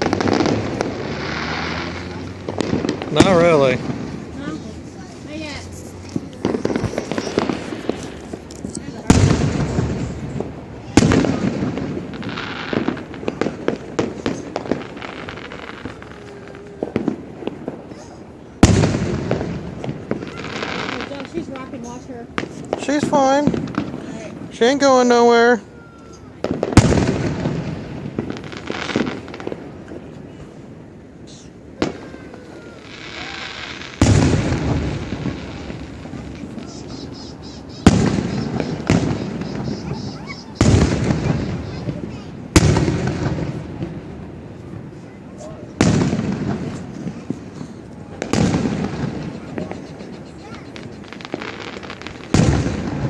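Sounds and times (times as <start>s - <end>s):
fireworks popping and cracking: 0.0s - 53.0s.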